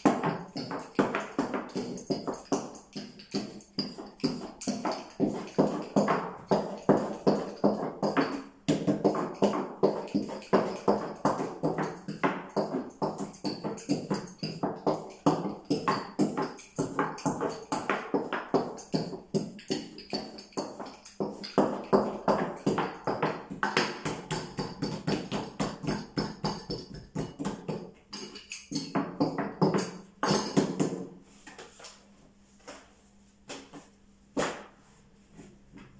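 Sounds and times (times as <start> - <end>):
music with percussive beat: 0.0 - 31.2.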